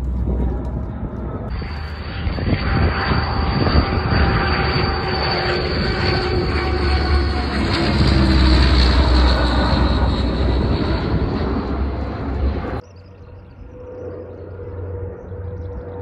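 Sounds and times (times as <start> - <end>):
jet aircraft engines roaring: 0.0 - 16.0.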